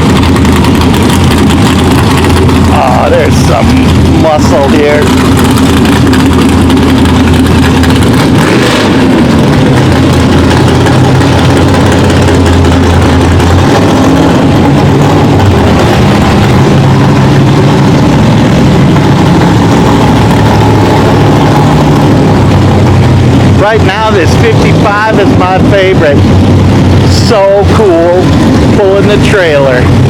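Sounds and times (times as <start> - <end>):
car engines idling: 0.0 - 30.0.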